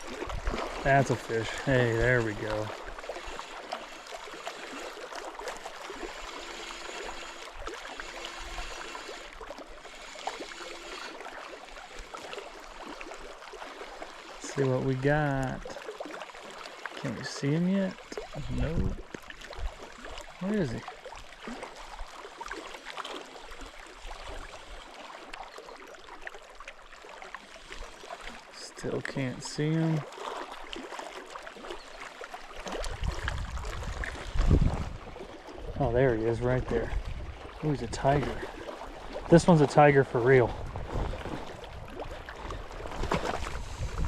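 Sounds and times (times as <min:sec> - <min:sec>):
water rushing: 0:00.0 - 0:44.0.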